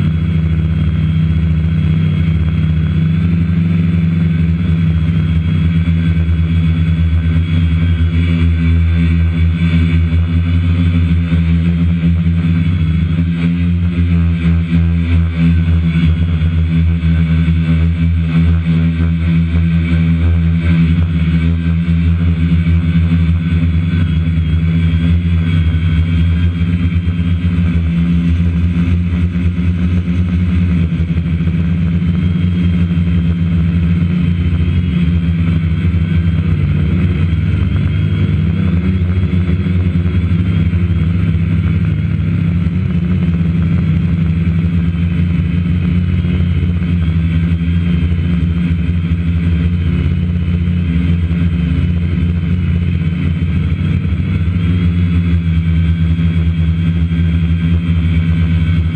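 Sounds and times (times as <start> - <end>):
drone motors humming and whining: 0.0 - 58.9.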